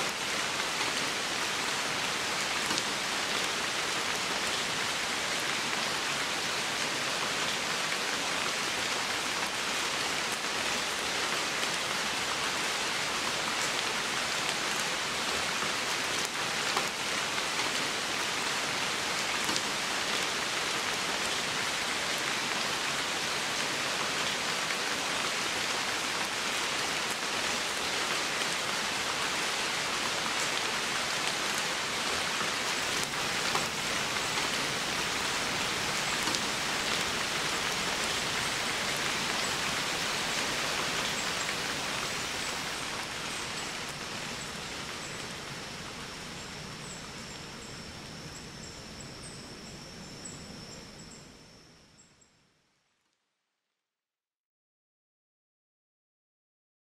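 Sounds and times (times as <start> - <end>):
rain falling on foliage: 0.0 - 51.5.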